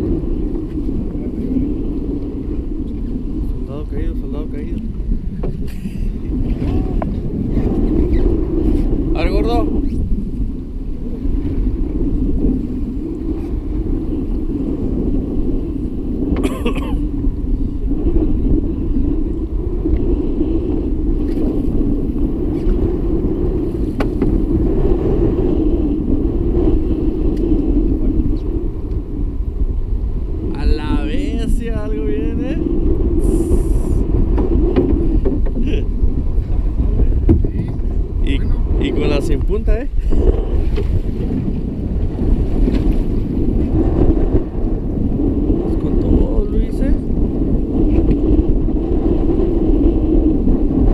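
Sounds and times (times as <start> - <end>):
boat low rumble: 0.0 - 50.9
wind buffeting microphone: 0.0 - 50.9.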